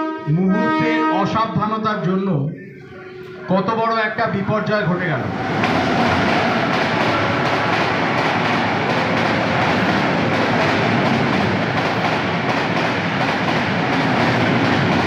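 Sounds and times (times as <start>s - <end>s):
train running on track: 2.6s - 15.0s.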